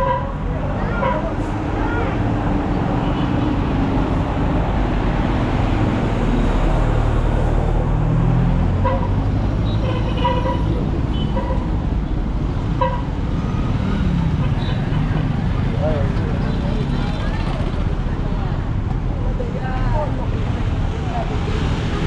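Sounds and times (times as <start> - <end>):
bus passing: 0.0 - 22.0
motorcycles passing: 0.5 - 22.0.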